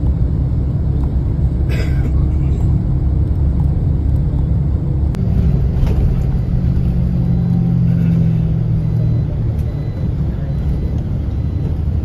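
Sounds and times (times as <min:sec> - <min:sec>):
engine hum: 0:00.0 - 0:12.0
vehicle engine and road rumble: 0:00.0 - 0:12.0.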